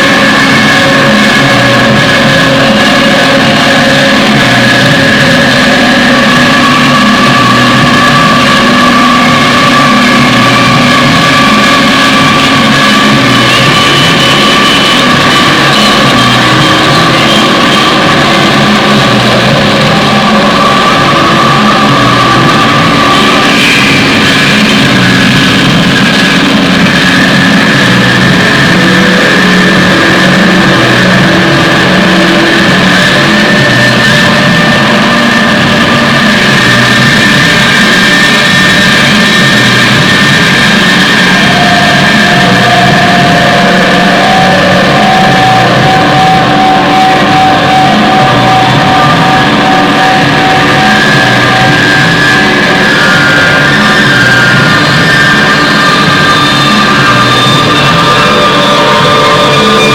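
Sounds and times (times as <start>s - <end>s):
loud distorted drone music: 0.0s - 59.9s.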